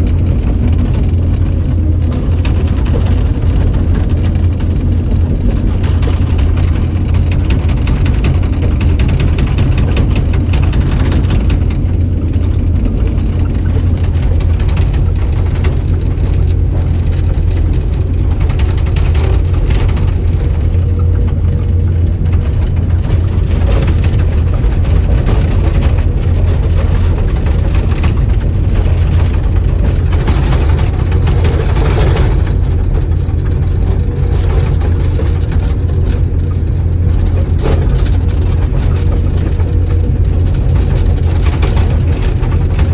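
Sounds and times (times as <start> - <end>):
diesel earthmoving machinery running: 0.0 - 42.9.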